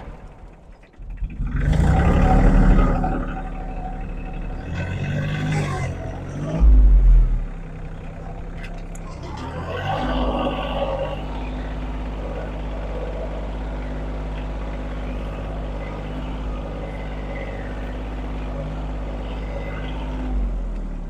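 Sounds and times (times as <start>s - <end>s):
engine running at raised revs: 0.0s - 21.0s.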